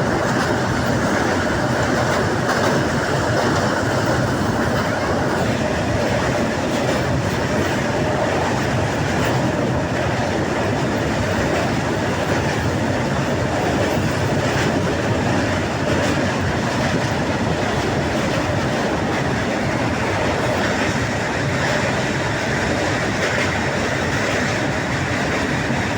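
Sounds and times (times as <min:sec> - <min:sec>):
rail joint clicks: 0:00.0 - 0:25.9
train wheels rumbling on track: 0:00.0 - 0:25.9.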